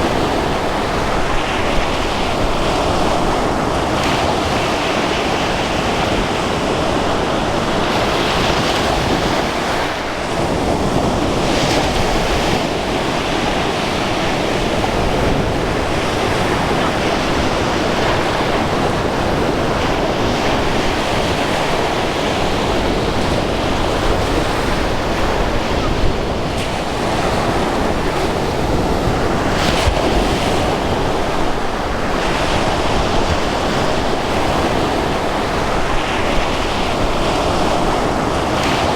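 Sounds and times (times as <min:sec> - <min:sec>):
sea waves breaking on shore: 0:00.0 - 0:38.9
wind buffeting microphone: 0:00.0 - 0:38.9.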